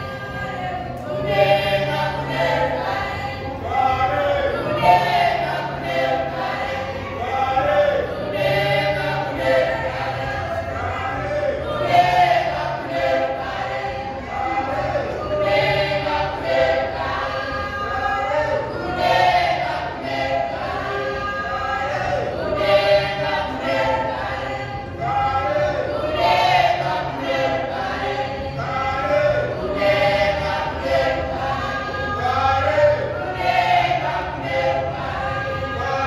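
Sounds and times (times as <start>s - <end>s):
youth choir singing a cappella: 0.0s - 36.0s.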